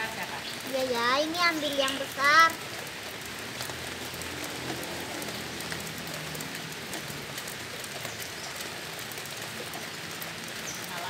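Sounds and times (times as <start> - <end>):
drops ticking close by: 0.0 - 11.0
steady rain falling: 0.0 - 11.0.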